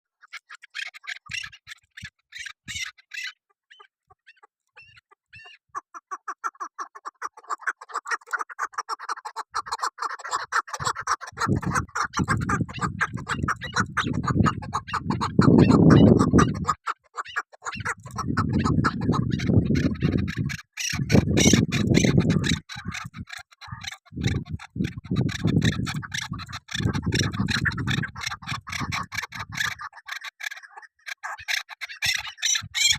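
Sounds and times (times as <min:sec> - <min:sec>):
partridge clucking calls: 0:00.2 - 0:32.9.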